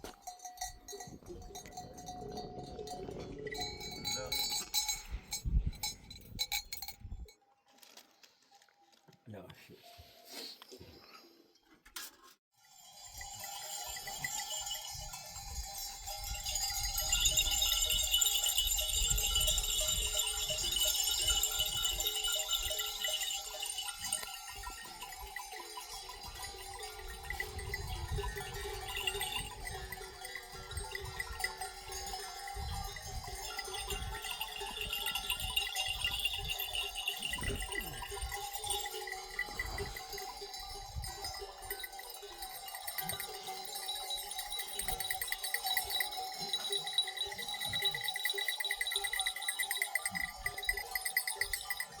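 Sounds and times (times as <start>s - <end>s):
livestock bells clinking: 0.0s - 7.4s, 12.6s - 52.0s.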